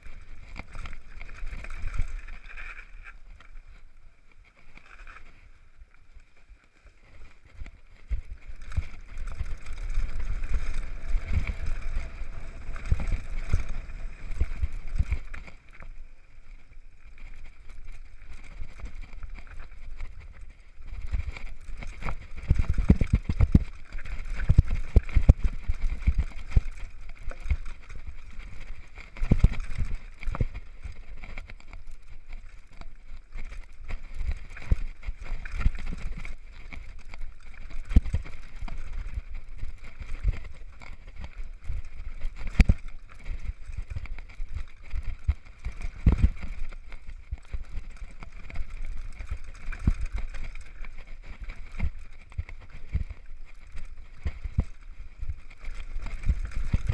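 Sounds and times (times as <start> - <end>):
wind and tyre noise: 0.0 - 56.9.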